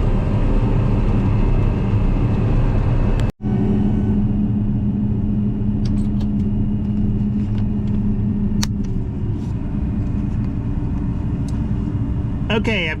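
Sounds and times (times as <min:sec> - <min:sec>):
steady hum: 0:00.0 - 0:13.0
vehicle engine rumbling: 0:00.0 - 0:13.0.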